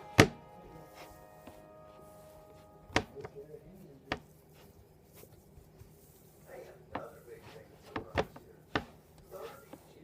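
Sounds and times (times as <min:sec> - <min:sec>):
faint steady tones: 0:00.0 - 0:10.0.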